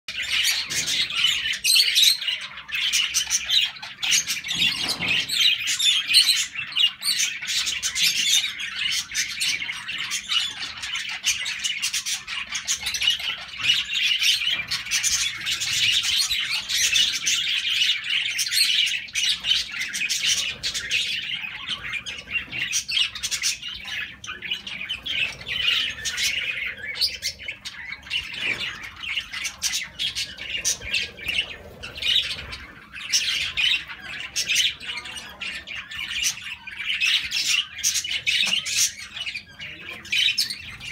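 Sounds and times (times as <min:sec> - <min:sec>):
birds chirping and squawking: 0:00.0 - 0:40.9.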